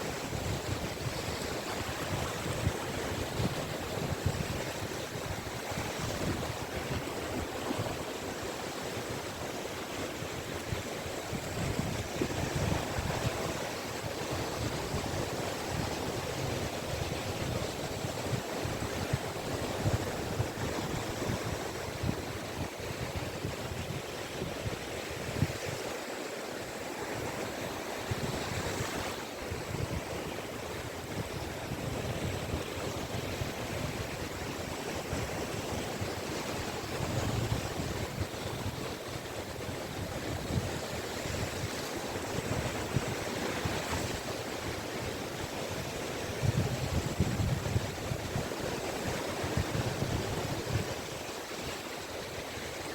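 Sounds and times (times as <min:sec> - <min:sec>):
sea waves breaking on beach: 0:00.0 - 0:52.9
wind on microphone: 0:00.0 - 0:52.9.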